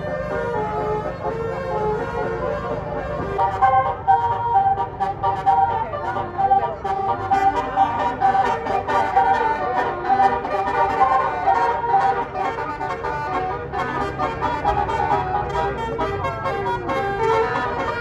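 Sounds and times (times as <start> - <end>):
musical air horn playing a tune: 0.0 - 18.0.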